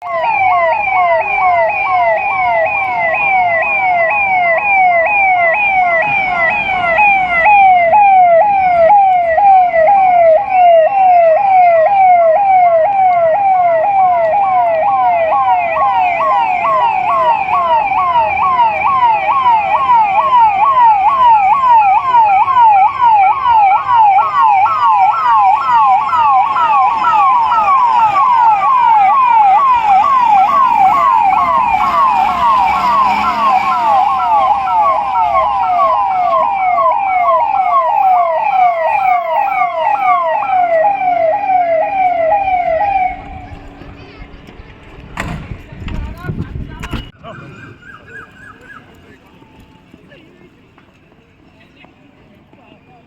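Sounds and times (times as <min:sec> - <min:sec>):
emergency siren yelping: 0:00.0 - 0:45.1, 0:47.2 - 0:49.9.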